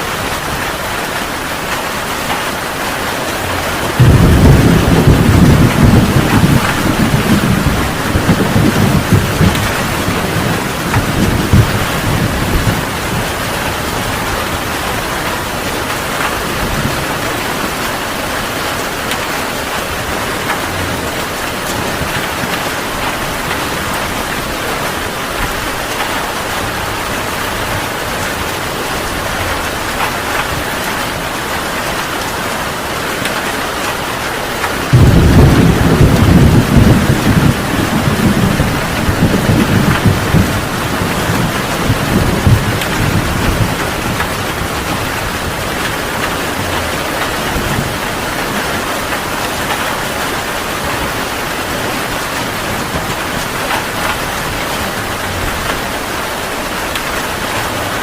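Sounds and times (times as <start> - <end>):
heavy rain falling: 0.0 - 58.0
thunder rumbling: 0.2 - 58.0.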